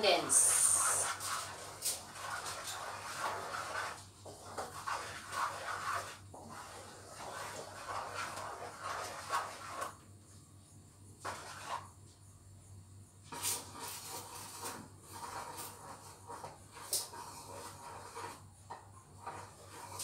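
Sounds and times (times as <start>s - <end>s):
spatula scraping a frying pan: 0.1s - 10.0s, 11.2s - 11.9s, 13.3s - 20.0s.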